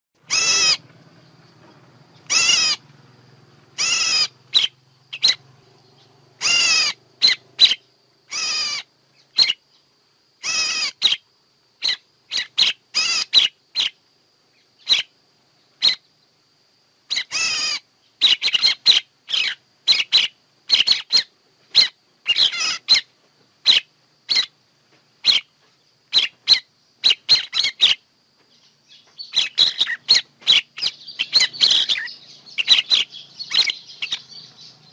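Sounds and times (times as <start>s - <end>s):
songbird calling: 0.2s - 34.9s.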